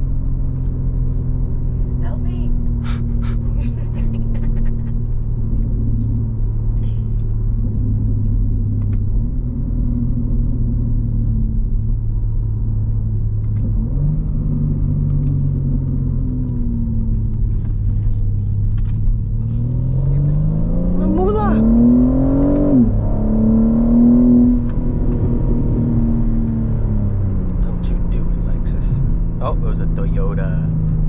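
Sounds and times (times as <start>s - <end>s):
car engine droning while driving: 0.0s - 31.0s.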